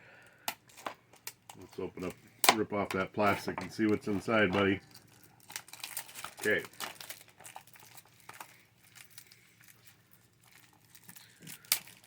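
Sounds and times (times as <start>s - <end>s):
faint crinkling: 0.1s - 12.0s
plastic wrap tearing: 1.3s - 12.0s.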